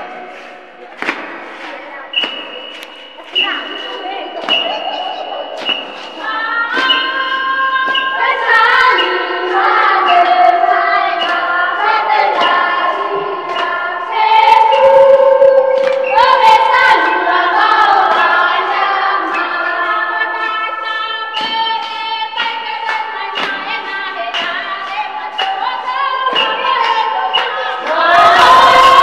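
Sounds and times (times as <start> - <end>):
choir singing: 1.9 - 29.0.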